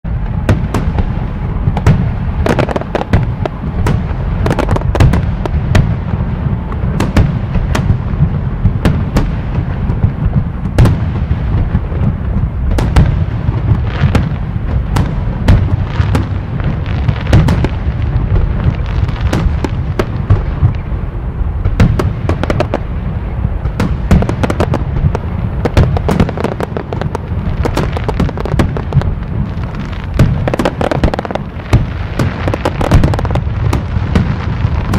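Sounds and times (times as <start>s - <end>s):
fireworks cracking and popping: 0.0s - 34.9s
low rumble: 0.0s - 34.9s.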